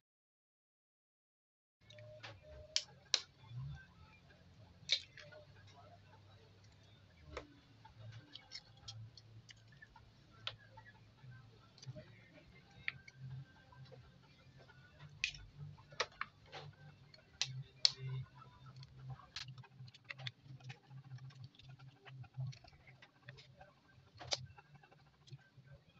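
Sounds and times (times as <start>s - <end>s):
faint low hum: 1.8s - 25.9s.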